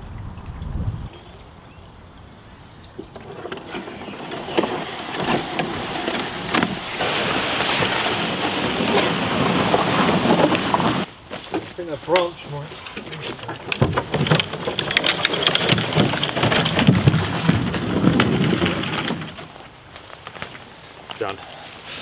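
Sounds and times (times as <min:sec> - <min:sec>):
hull scraping over grass: 0:03.0 - 0:22.0
reeds rustling against canoe hull: 0:03.0 - 0:22.0.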